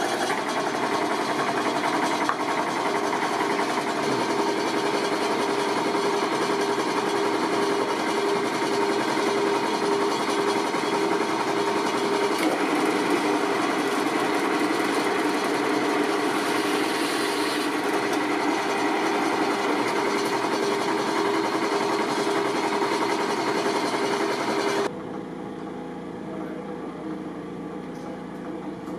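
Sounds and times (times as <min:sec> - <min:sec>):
drill press running: 0:00.0 - 0:26.2.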